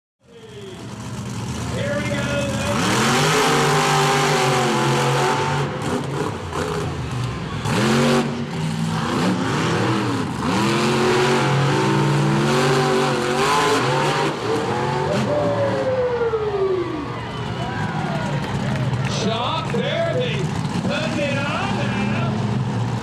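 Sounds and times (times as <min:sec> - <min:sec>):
monster truck engine revving: 0:00.4 - 0:23.0.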